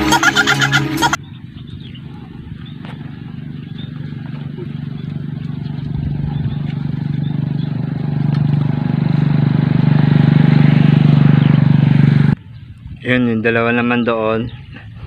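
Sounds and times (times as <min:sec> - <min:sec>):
small engine running: 0:00.0 - 0:12.4.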